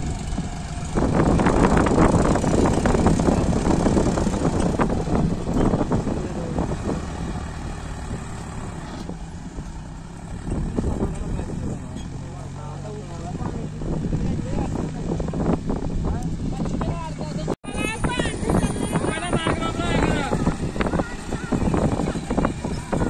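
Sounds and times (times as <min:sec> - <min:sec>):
tractor diesel engine labouring: 0:00.0 - 0:23.0.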